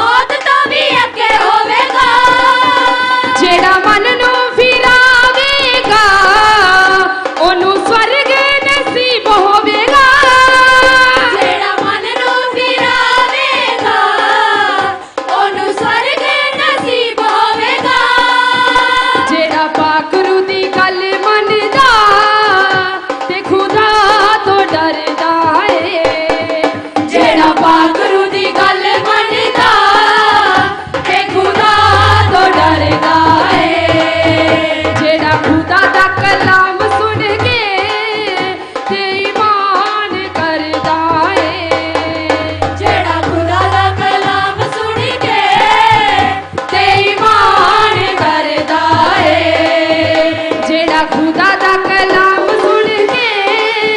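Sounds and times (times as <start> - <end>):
hand drum beat: 0.0 - 53.9
women singing through microphones: 0.0 - 53.9.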